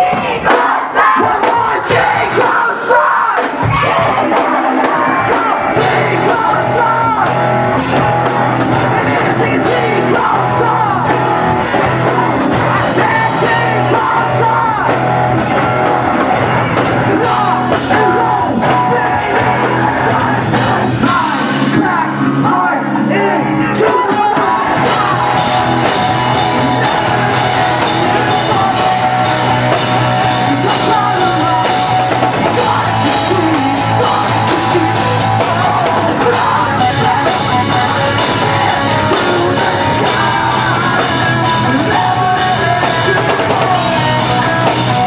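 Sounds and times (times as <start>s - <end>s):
live rock band playing: 0.0s - 45.0s
sung and shouted vocals: 0.0s - 45.0s.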